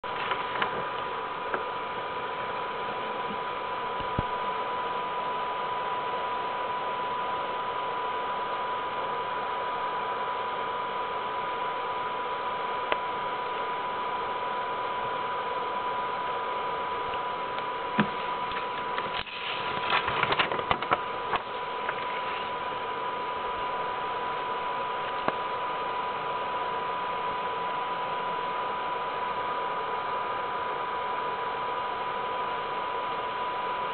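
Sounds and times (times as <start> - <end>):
thin whine: 0.0 - 33.9.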